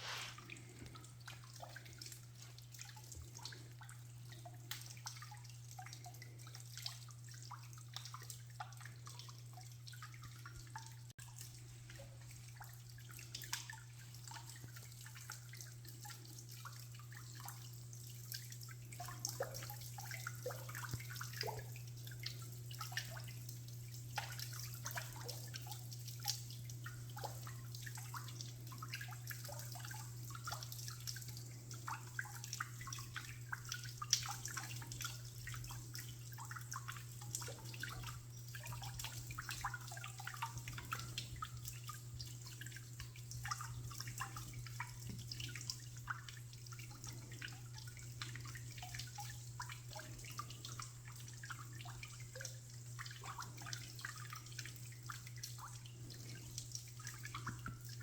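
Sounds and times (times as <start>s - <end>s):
water dripping: 0.0s - 58.0s.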